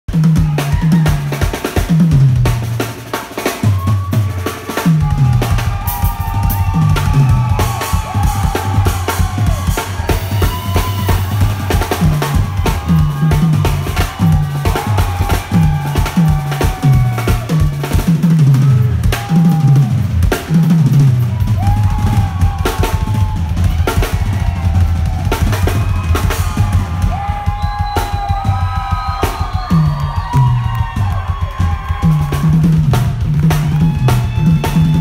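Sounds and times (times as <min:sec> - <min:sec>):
bass drum: 0:00.1 - 0:35.0.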